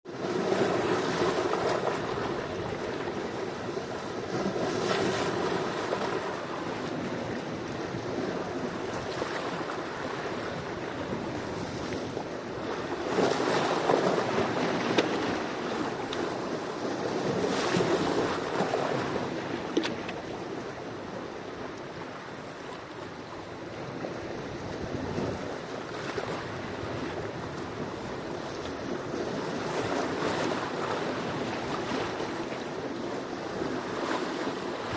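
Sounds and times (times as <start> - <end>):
sea waves breaking on shore: 0.1 - 34.9.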